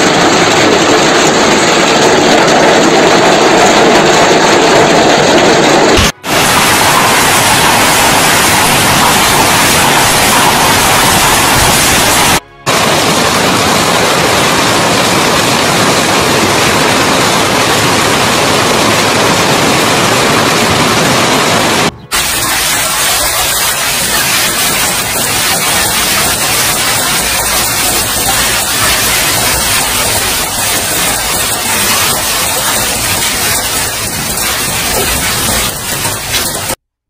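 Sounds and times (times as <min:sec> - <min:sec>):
hail and heavy rain pelting: 0:00.0 - 0:36.8.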